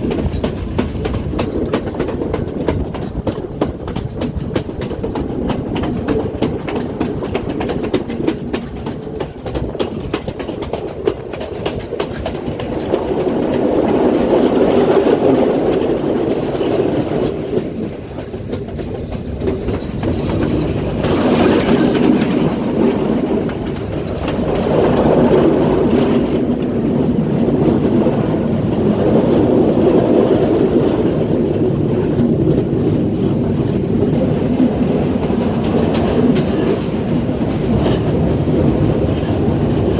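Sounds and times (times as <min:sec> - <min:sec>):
train carriage rumble: 0:00.0 - 0:39.9
wheels clattering over rail joints: 0:00.0 - 0:39.9.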